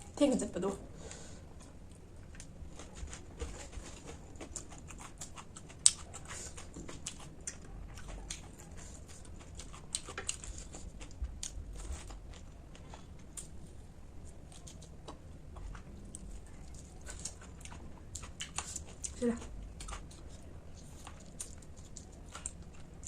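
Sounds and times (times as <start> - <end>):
person chewing crunchy food: 1.6 - 23.0.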